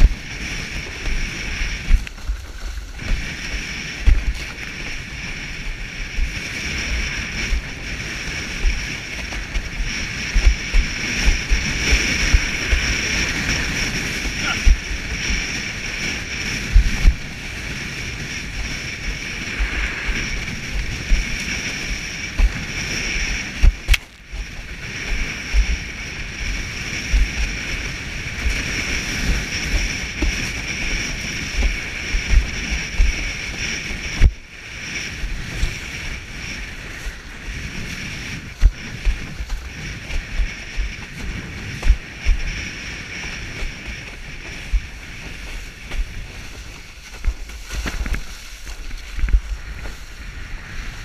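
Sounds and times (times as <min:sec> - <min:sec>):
board slapping waves: 0:00.0 - 0:51.0
water rushing past board: 0:00.0 - 0:51.0
wind on microphone: 0:00.0 - 0:51.0.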